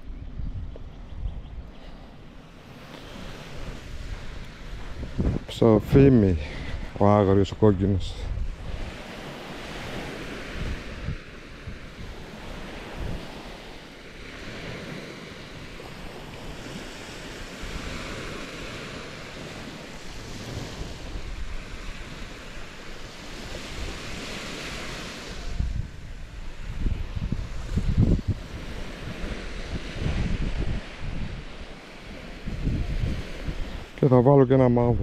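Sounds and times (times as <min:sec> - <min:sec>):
wind rumbling on microphone: 0:00.0 - 0:35.0
sea waves washing onto sand: 0:01.9 - 0:35.0.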